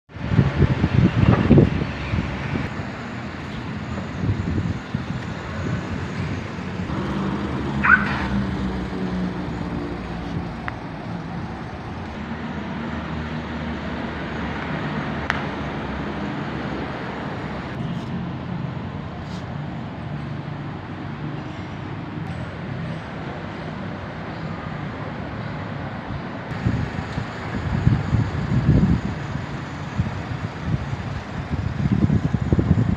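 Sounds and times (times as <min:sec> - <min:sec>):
motor vehicle running: 0:00.1 - 0:21.7, 0:26.5 - 0:32.9
road traffic noise: 0:00.1 - 0:32.9.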